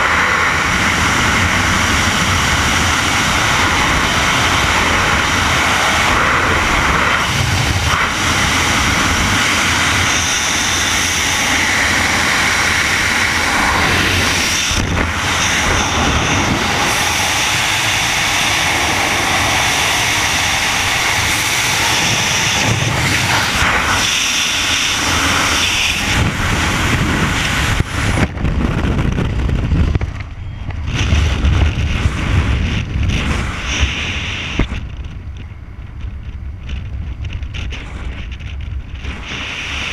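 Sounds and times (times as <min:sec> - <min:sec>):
wind buffeting: 0:00.0 - 0:39.9
wind roaring over microphone: 0:00.0 - 0:39.9.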